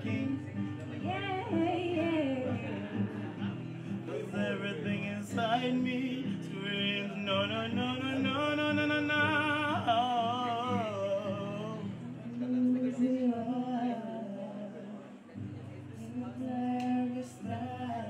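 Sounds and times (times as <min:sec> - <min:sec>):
strummed acoustic guitar: 0:00.0 - 0:14.7, 0:15.4 - 0:18.0.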